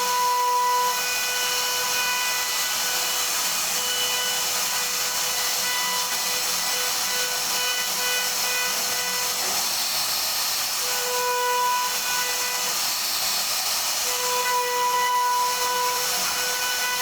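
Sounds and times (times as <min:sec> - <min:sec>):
router cutting wood: 0:00.0 - 0:17.0.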